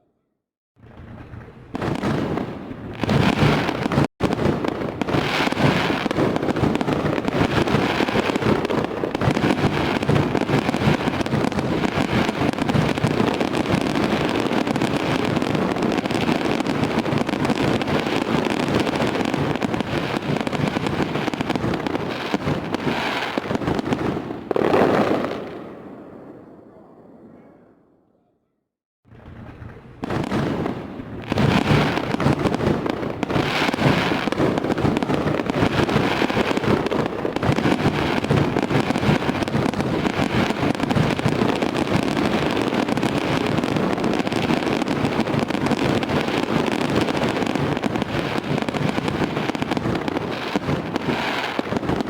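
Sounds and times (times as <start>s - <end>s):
fireworks bangs and crackles: 0.8s - 27.5s, 29.1s - 52.0s.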